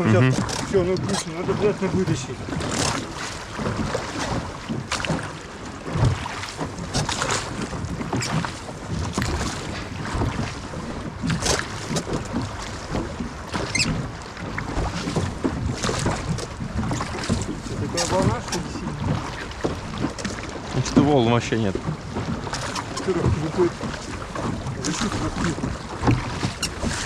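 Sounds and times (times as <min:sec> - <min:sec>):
oar strokes in water: 0:00.0 - 0:27.0
water slapping against hull: 0:00.0 - 0:27.0.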